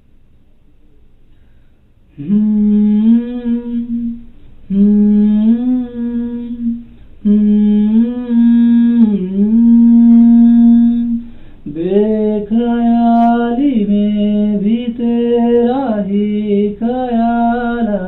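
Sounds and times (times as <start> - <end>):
man humming a slow melody: 2.1 - 18.0.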